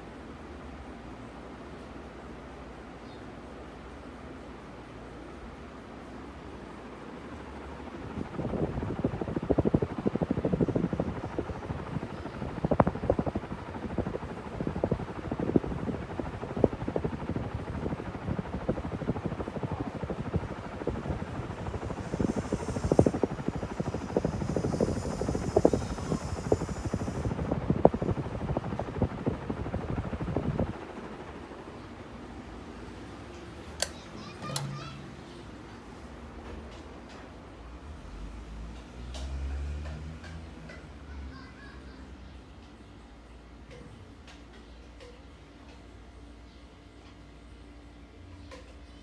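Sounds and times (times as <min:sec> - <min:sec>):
ceiling fan air buffeting microphone: 0:00.0 - 0:49.0.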